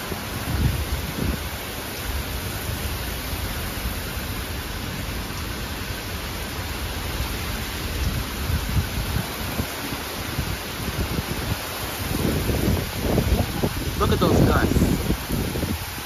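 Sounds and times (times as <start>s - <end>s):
wind buffeting microphone: 0.0s - 5.2s, 6.2s - 16.0s
heavy rain pouring: 0.0s - 16.0s.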